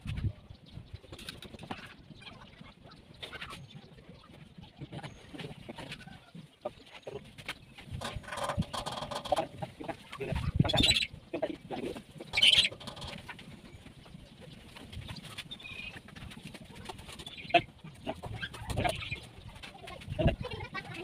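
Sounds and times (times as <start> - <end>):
chickens clucking and squawking: 1.4 - 21.0.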